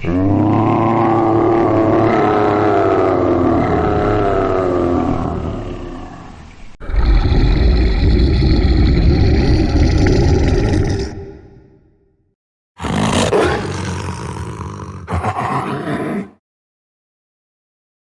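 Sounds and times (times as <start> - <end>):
falling roar or groan: 0.0 - 11.8, 12.8 - 16.4
harsh rumbling roar: 0.0 - 11.8, 12.8 - 16.4.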